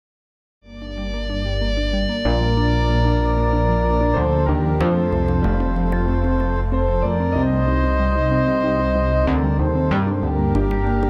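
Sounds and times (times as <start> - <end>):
background music: 0.7 - 11.0.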